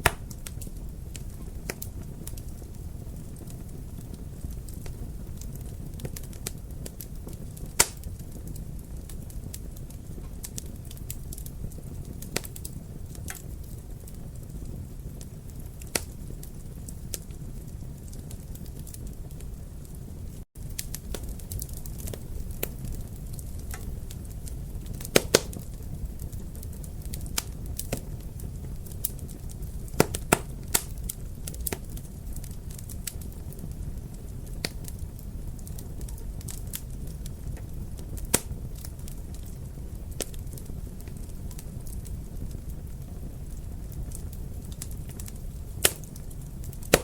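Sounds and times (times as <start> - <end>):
sharp pops of fire: 0.0 - 19.5, 20.6 - 47.0
wood fire crackling: 0.0 - 47.0.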